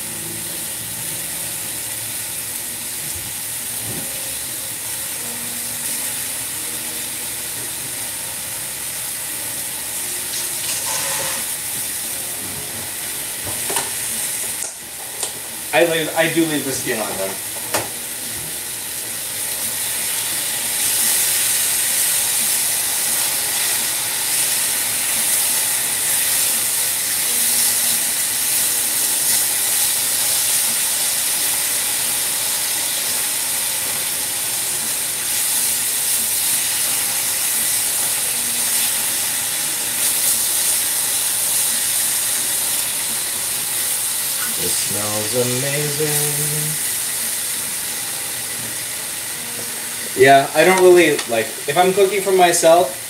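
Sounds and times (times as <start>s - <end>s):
tomatoes sizzling in oil: 0.0s - 53.0s.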